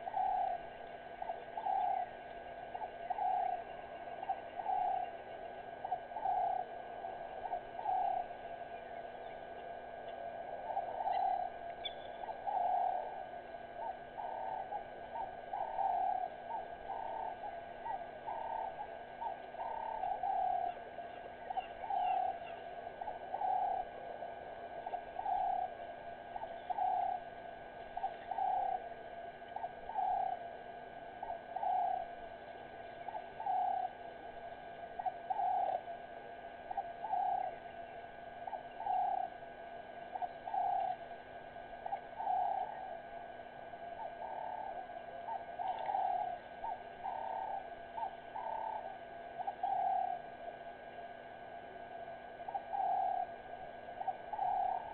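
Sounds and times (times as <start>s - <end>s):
bird cooing: 0.0s - 54.9s
faint steady hum: 0.0s - 54.9s.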